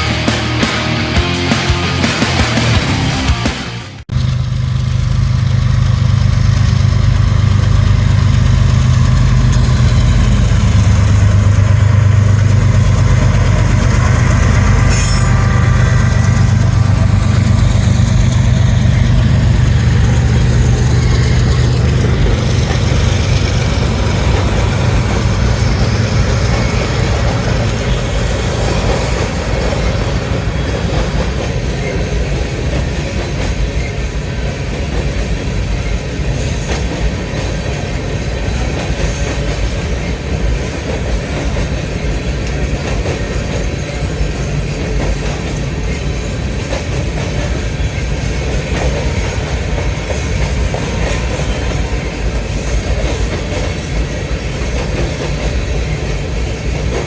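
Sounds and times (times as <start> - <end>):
train cars rolling past: 0.0 - 57.0.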